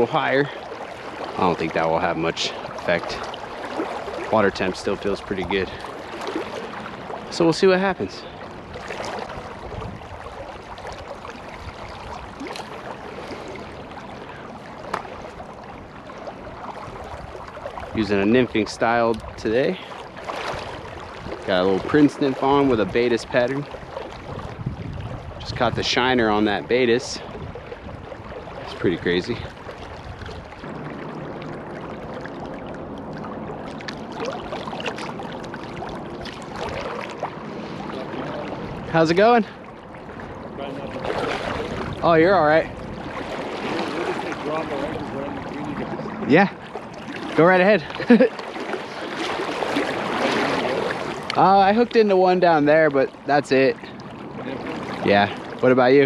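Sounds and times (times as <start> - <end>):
river water rushing: 0.0 - 18.4, 19.8 - 24.6, 27.3 - 56.0.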